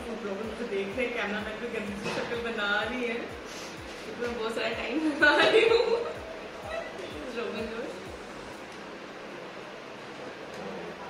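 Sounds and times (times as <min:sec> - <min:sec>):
room noise hiss: 0:00.0 - 0:11.0.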